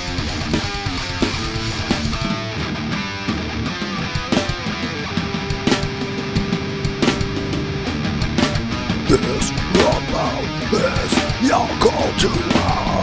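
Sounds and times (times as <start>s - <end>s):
drums: 0.0s - 13.0s
electric guitar: 0.0s - 13.0s.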